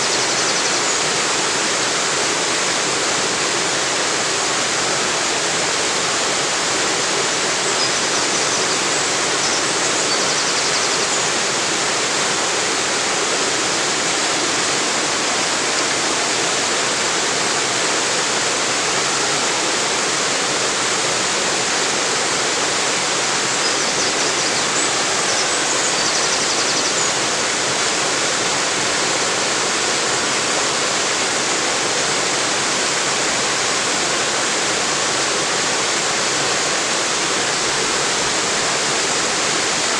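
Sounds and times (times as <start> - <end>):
waterfall water pouring and splashing: 0.0 - 39.9.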